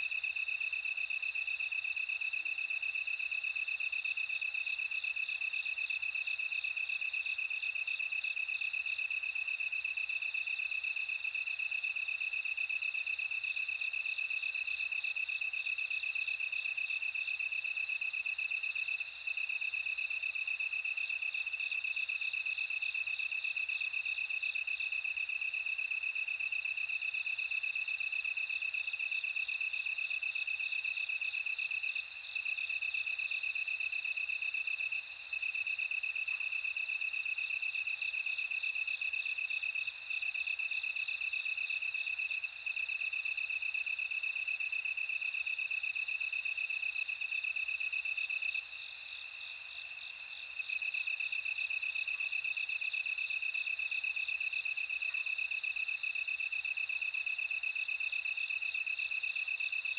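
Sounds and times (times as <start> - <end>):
higher ringing cricket song: 0.0 - 59.9.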